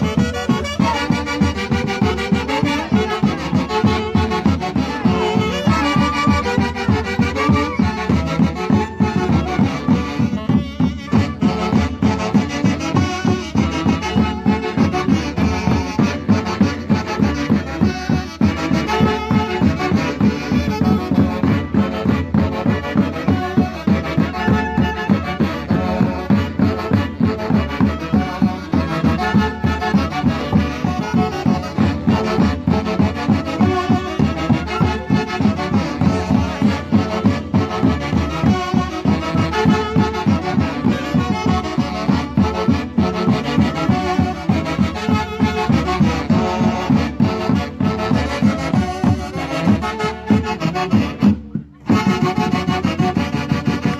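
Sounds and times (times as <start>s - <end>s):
saxophones and clarinets melody: 0.0s - 53.9s
violin: 0.0s - 53.9s.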